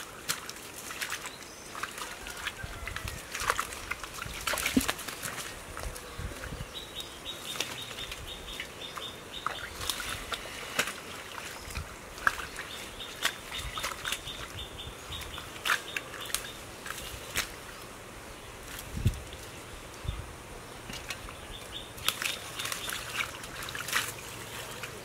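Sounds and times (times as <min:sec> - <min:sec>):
hands squelching in wet mud: 0:00.0 - 0:06.0, 0:07.4 - 0:17.8, 0:20.9 - 0:25.0.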